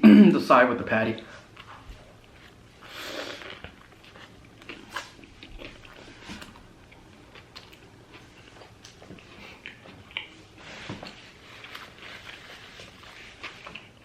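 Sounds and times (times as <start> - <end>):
person chewing food: 1.3 - 14.0.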